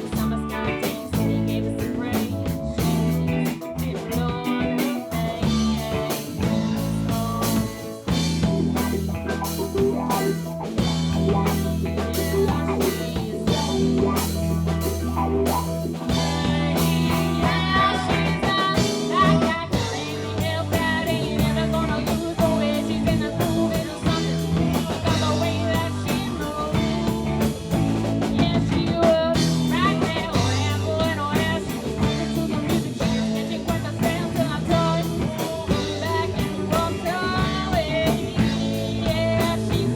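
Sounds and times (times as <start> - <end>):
band playing blues-rock: 0.0 - 39.9.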